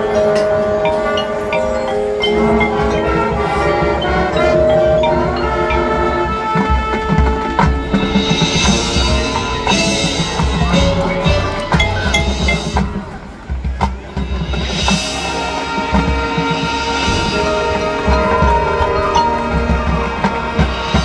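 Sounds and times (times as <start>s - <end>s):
mallet percussion ringing: 0.0s - 21.0s
marching band playing: 0.0s - 21.0s.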